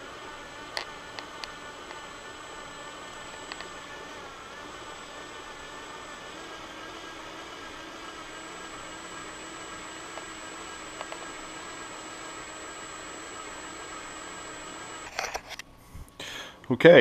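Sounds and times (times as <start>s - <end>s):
cordless drill running: 0.0s - 15.2s.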